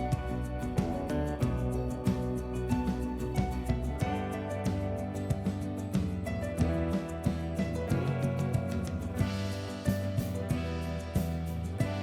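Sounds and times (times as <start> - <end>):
gentle instrumental guitar music: 0.0 - 12.0.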